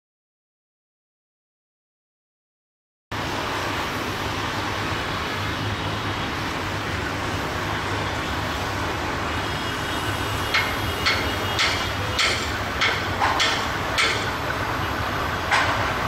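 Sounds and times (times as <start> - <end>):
distant traffic rumble: 3.1 - 16.0.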